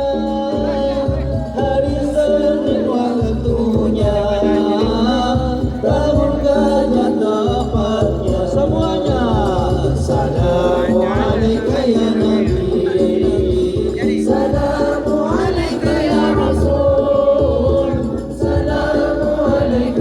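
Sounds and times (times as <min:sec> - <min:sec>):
music with low beat and melodic lead: 0:00.0 - 0:20.0.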